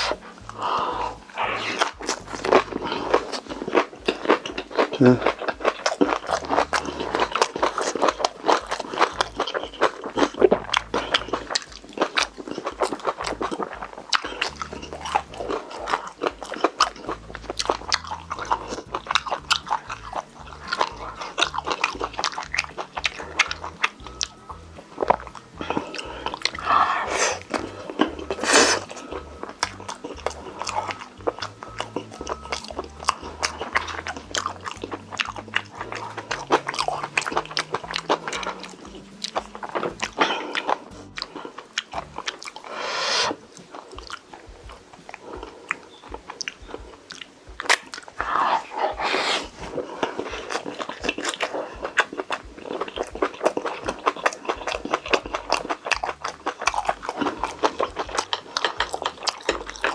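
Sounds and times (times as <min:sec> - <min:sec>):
crunchy biting and chewing: 0:00.0 - 0:59.9
wet mouth clicks: 0:00.0 - 0:59.9.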